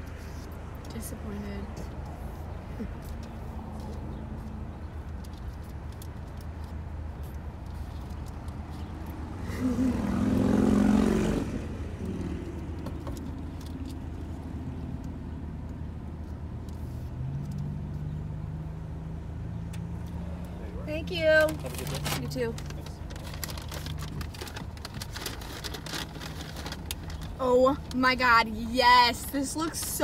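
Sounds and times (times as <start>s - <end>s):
engine rumble: 0.0s - 30.0s.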